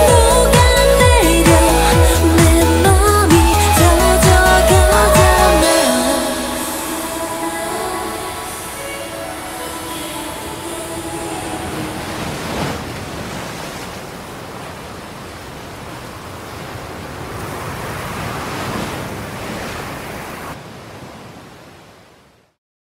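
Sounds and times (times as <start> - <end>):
ocean surf washing in: 0.0 - 22.4.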